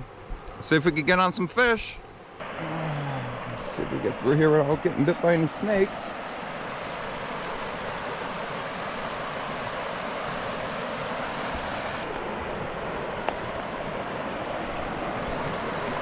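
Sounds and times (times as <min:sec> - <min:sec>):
creek water rushing: 0:02.4 - 0:16.0.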